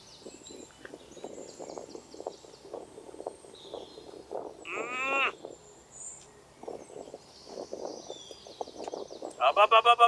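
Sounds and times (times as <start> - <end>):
birds chirping faintly: 0.0 - 10.0.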